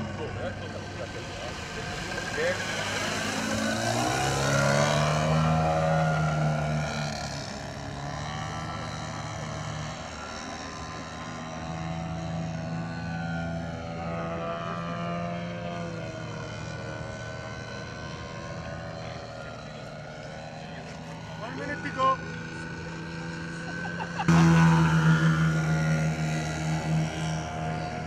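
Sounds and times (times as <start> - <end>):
model plane engine droning: 0.0 - 28.0.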